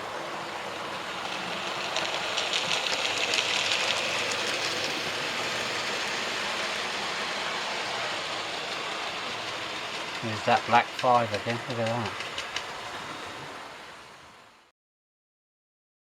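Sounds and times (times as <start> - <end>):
wheels clicking over rail joints: 0.0 - 13.1
model train running on track: 0.0 - 14.6.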